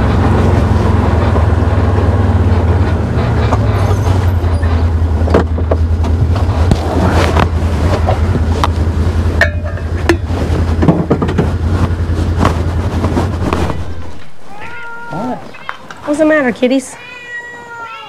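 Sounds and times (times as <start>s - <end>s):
engine idling low drone: 0.0s - 14.6s.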